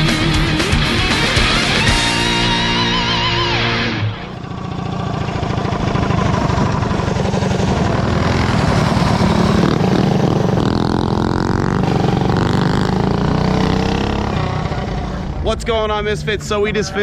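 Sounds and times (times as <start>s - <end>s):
mini bike engine running: 0.0s - 15.4s.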